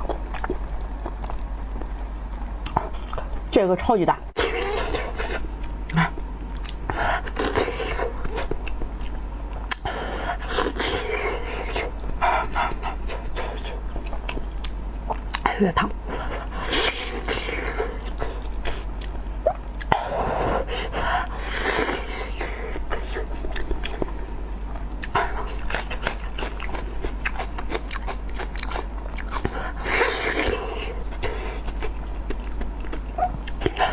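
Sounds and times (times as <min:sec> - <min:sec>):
person chewing meat: 0:00.0 - 0:03.4, 0:04.4 - 0:33.9.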